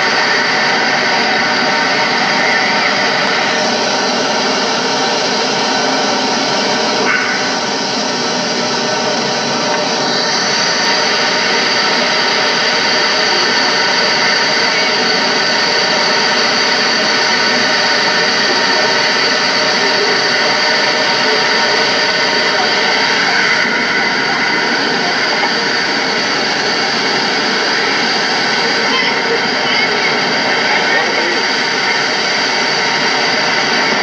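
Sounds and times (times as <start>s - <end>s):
fountain water rushing: 0.0s - 34.0s.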